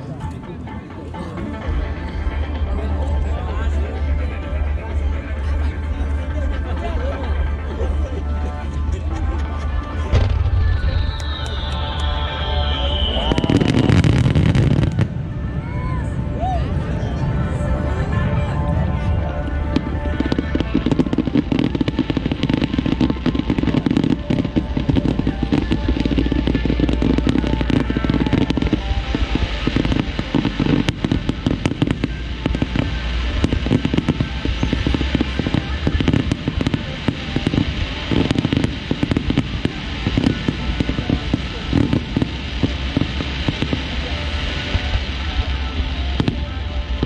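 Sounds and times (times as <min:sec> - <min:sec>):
fireworks bursting and crackling: 0:00.0 - 0:15.4, 0:17.6 - 0:47.0
music playing: 0:00.0 - 0:47.0.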